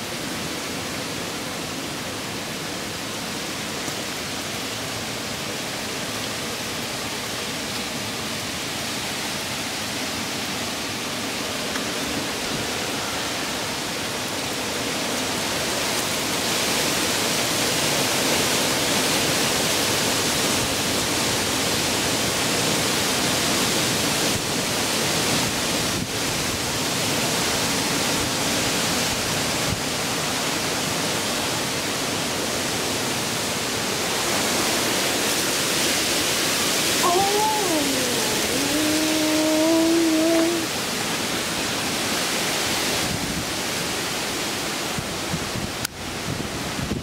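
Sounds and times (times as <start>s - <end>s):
hurricane wind and rain: 0.0s - 47.0s.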